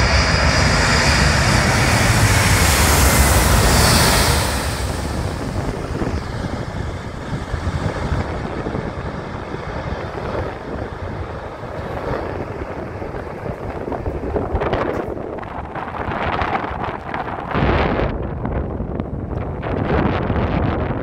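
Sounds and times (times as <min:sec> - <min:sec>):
jet engines rumbling: 0:00.0 - 0:21.0
wind buffeting microphone: 0:00.0 - 0:21.0.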